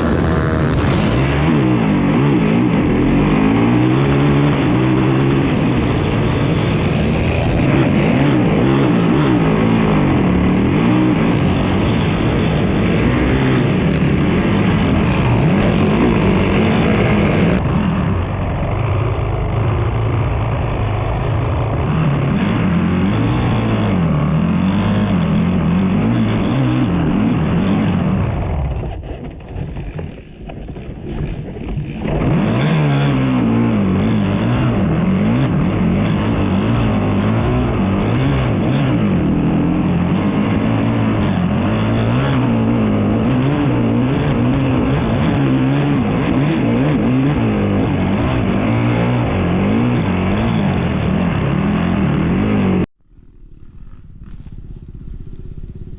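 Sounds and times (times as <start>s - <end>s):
atv engines revving: 0.0s - 55.9s.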